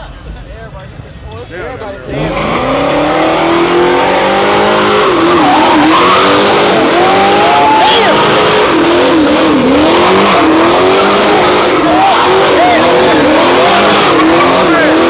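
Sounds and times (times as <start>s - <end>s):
tire noise rushing: 0.1s - 15.0s
car engine at high revs: 2.0s - 15.0s
tires squealing: 2.0s - 15.0s.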